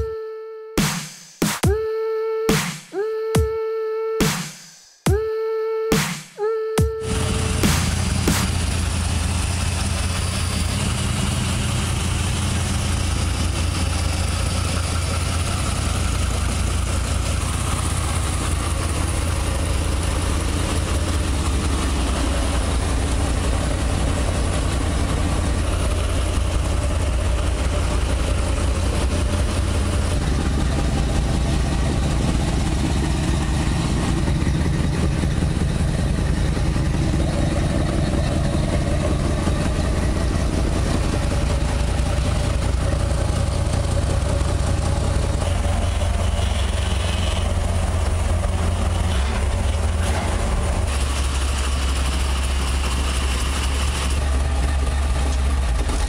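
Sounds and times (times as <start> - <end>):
car engine idling: 7.0 - 56.0.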